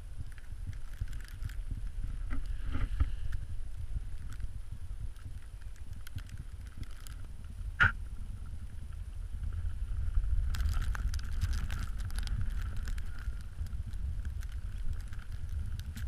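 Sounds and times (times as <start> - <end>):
crunching and scratching: 0.0 - 16.0
wind rumble on microphone: 0.0 - 16.0.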